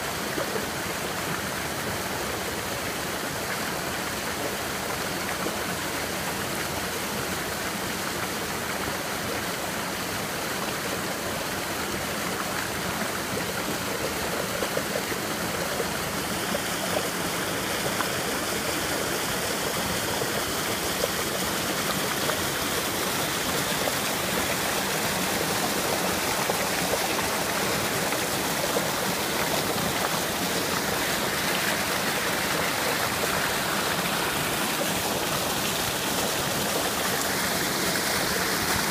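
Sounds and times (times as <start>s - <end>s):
creek water rushing over boulders: 0.0s - 38.9s.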